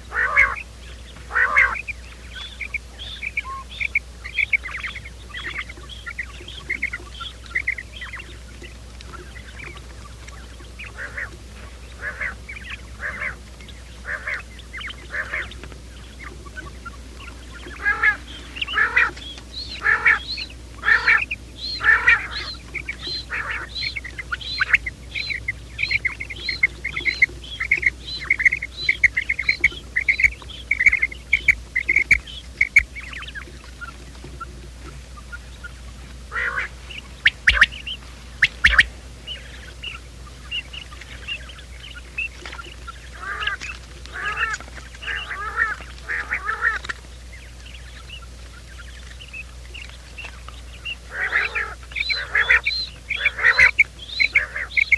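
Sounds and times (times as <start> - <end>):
quail calling: 0.0 - 54.9
steady low hum: 0.0 - 54.9.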